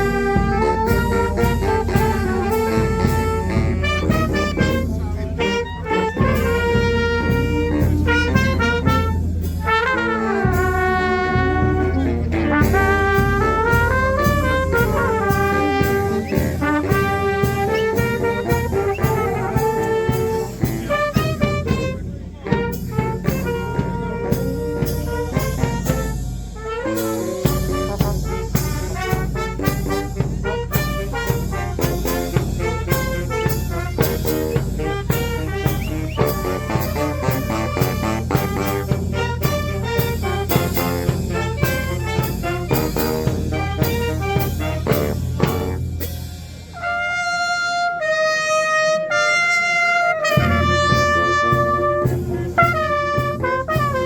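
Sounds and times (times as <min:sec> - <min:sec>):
steady drum beat: 0:00.0 - 0:47.0, 0:50.0 - 0:54.0
brass melody: 0:00.0 - 0:54.0.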